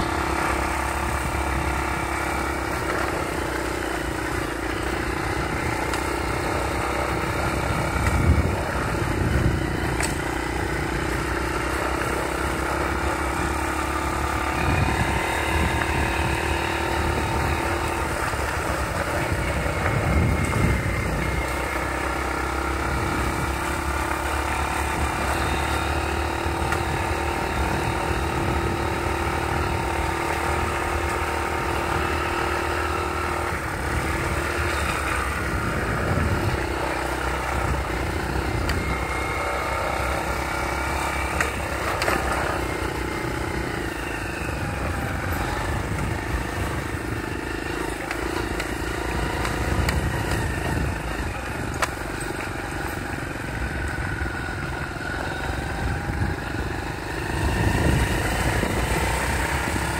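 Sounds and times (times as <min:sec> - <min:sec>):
motorcycle engine running: 0:00.0 - 0:59.9
wind rumble on microphone: 0:05.0 - 0:11.3, 0:14.1 - 0:39.7, 0:40.4 - 0:59.9.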